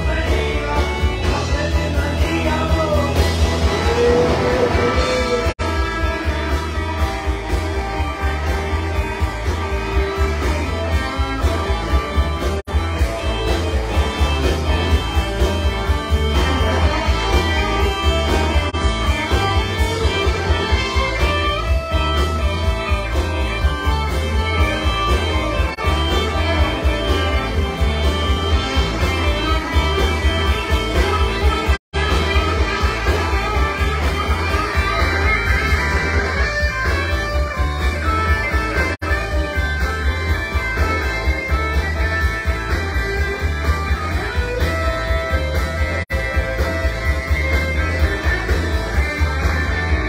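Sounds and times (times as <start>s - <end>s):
bass: 0.0s - 50.0s
drums: 0.0s - 50.0s
electric guitar: 0.0s - 50.0s
electric keyboard: 0.0s - 50.0s.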